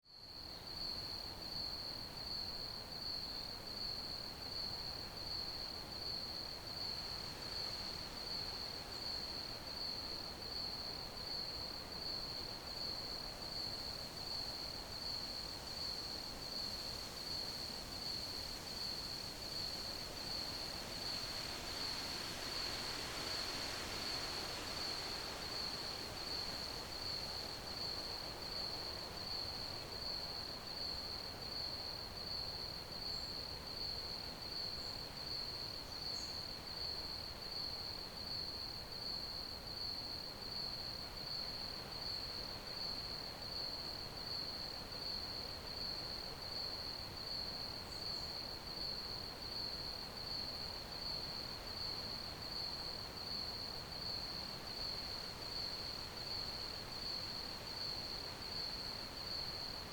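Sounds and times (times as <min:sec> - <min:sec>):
faint background hiss: 0:00.1 - 0:59.9
crickets chirping: 0:00.3 - 0:59.9.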